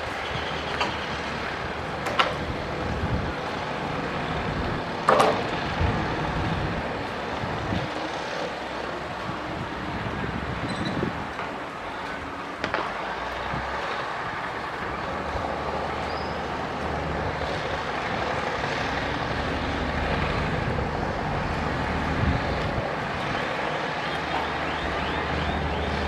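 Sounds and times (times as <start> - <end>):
heavy diesel machinery droning: 0.0 - 26.0.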